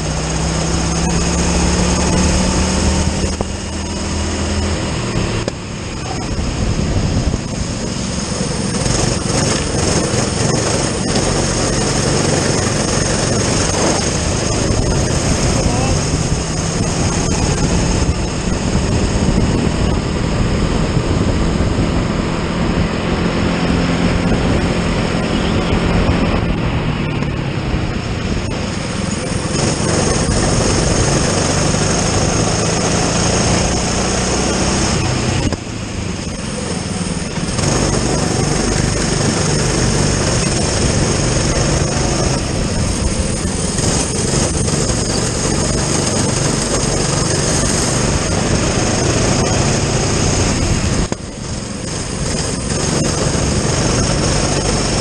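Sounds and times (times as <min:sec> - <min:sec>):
kart engine running hard: 0:00.0 - 0:55.0
rush of noise: 0:00.0 - 0:55.0.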